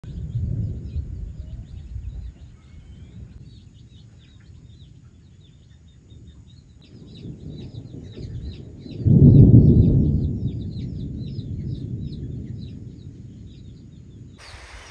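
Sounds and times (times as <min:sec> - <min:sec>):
birds chirping: 0:00.0 - 0:14.9
thunder rumbling: 0:00.0 - 0:14.9.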